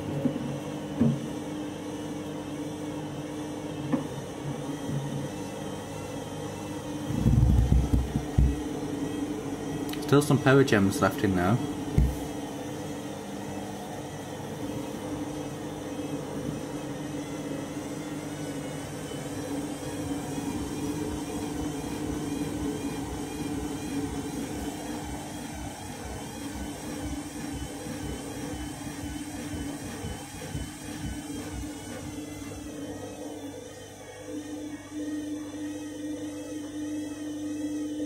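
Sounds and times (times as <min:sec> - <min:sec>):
washing machine spinning: 0:00.0 - 0:38.0.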